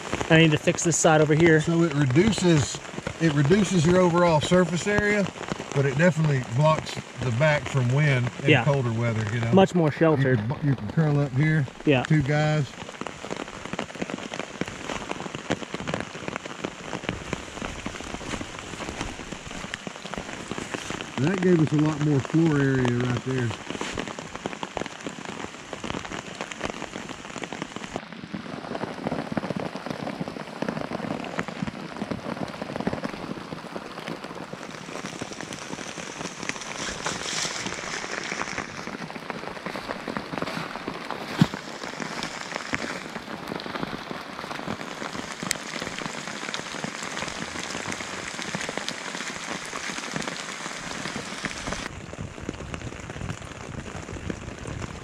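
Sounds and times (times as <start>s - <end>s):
rain pattering on a poncho: 0.0s - 55.0s.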